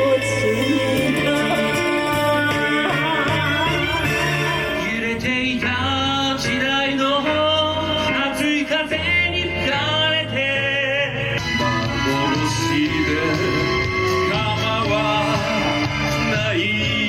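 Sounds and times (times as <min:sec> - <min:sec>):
instrumental backing with bass: 0:00.0 - 0:17.0
person singing: 0:00.0 - 0:17.0.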